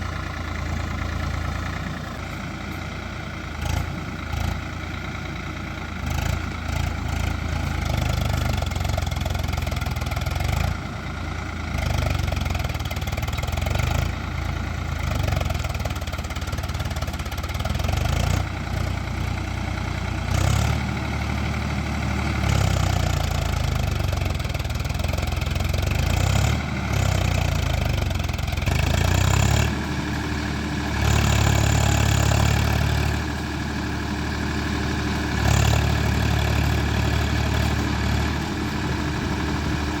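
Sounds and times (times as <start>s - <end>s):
tractor diesel engines rumbling: 0.0s - 40.0s.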